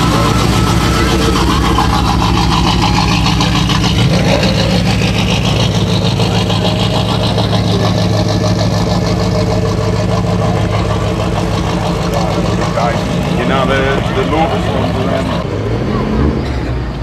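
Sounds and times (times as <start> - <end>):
car engine running: 0.0 - 16.1.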